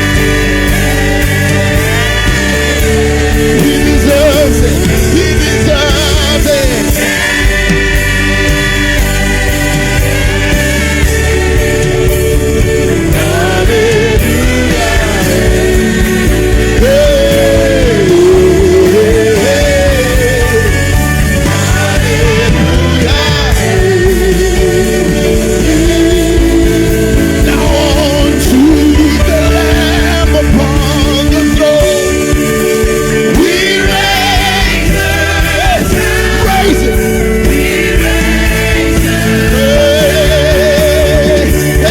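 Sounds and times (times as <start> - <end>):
solo voice singing: 0.0 - 11.6, 12.2 - 41.9
band with drums: 0.0 - 41.9.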